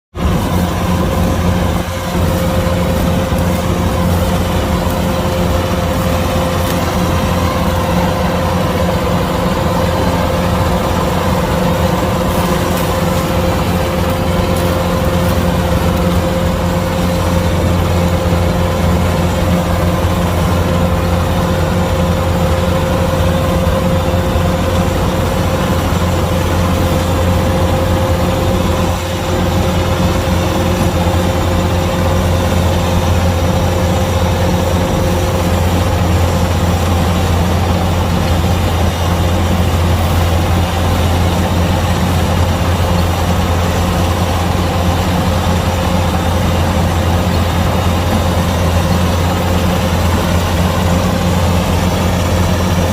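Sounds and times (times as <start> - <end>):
combine harvester engine drone: 0.1 - 52.9
steady machine whine: 0.1 - 52.9.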